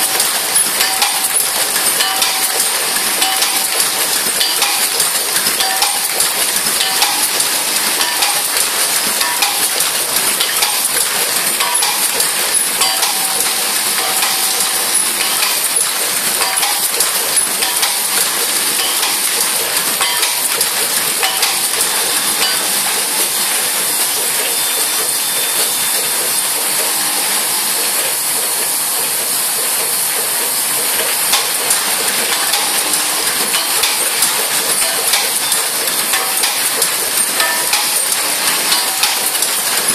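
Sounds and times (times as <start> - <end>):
machine hissing: 0.0 - 39.9.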